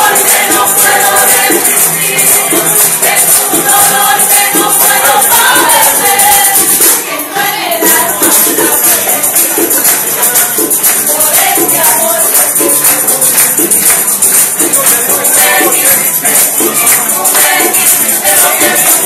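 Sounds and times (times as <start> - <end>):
hand percussion beat: 0.0 - 19.0
voices singing: 0.0 - 19.0.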